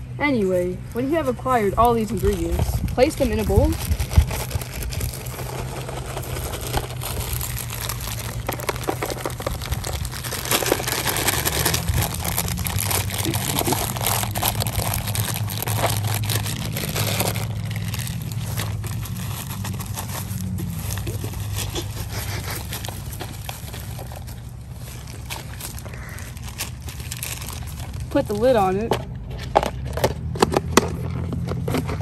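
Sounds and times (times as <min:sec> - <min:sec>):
plastic snack bags crinkling: 0:01.8 - 0:32.0
snacks rattling into plastic bowl: 0:03.6 - 0:32.0.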